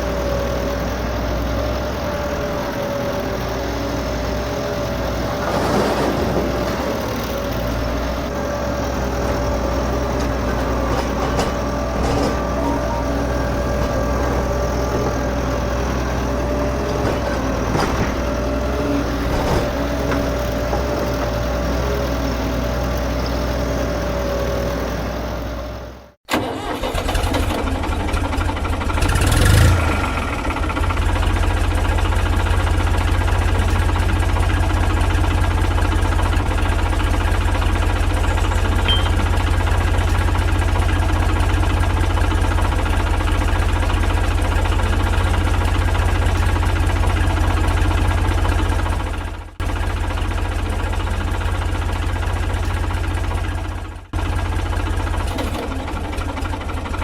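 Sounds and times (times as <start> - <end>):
engine starting and idling: 0.0 - 22.5, 26.2 - 57.0
engine running: 0.0 - 57.0.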